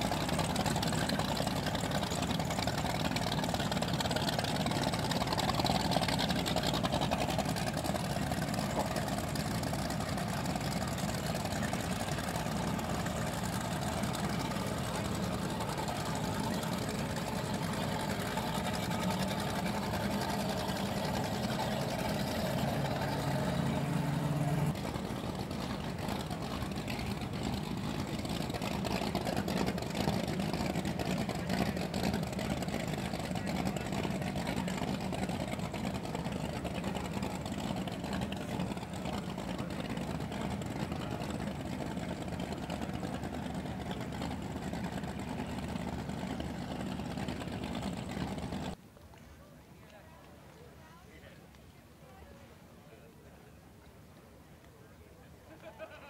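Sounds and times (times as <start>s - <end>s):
outboard motors running: 0.0s - 48.8s.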